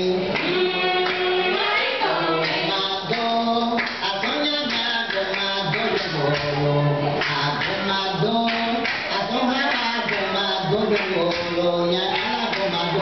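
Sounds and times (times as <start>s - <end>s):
chorus singing long held notes: 0.0s - 13.0s.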